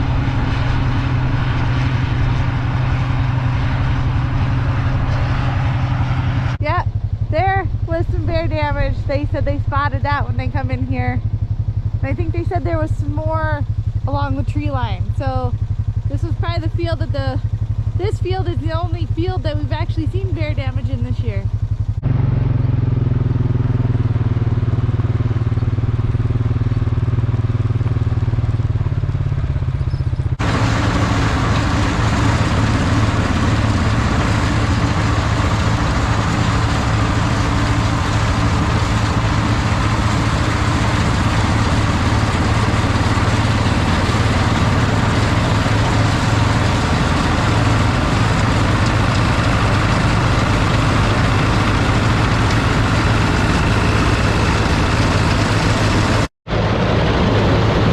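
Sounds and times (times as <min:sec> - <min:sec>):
heavy machinery engine running: 0:00.0 - 0:57.9.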